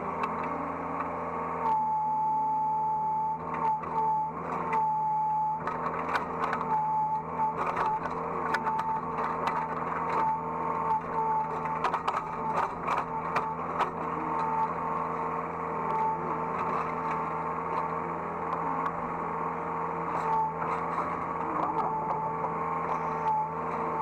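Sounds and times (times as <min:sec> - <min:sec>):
excavator engine hum: 0:00.0 - 0:24.0
hydraulic whine: 0:00.0 - 0:24.0.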